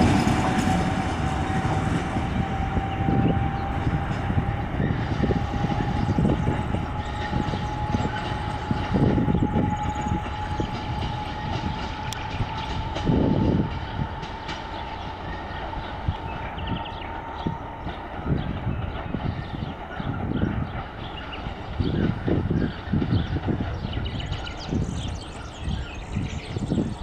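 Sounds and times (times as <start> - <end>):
locomotive whine and rumble: 0.0 - 27.0.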